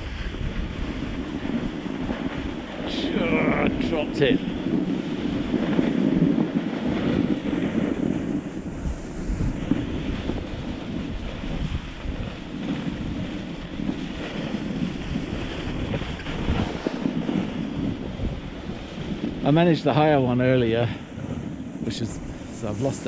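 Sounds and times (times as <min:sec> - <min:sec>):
skis rumbling over snow: 0:00.0 - 0:23.0
wind buffeting microphone: 0:00.0 - 0:23.0.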